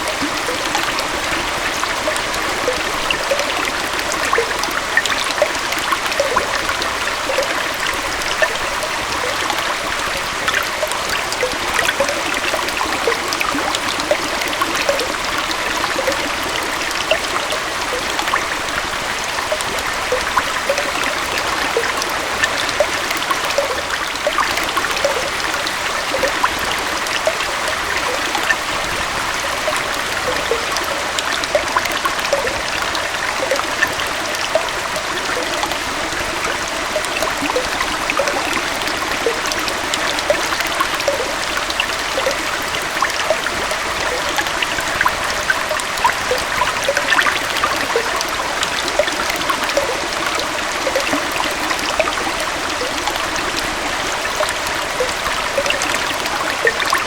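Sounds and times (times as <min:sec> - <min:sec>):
water gurgling and splashing: 0:00.0 - 0:57.0
water rushing: 0:00.0 - 0:57.0.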